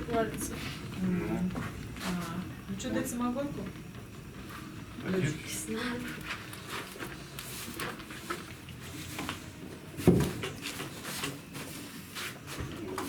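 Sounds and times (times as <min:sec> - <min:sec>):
wood fire crackling in a stove: 0:00.0 - 0:13.0.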